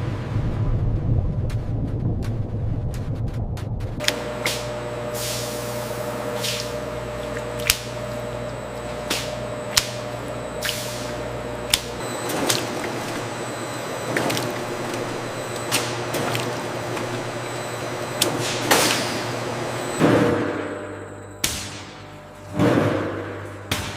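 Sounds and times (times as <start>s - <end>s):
machinery humming: 0.0s - 23.9s.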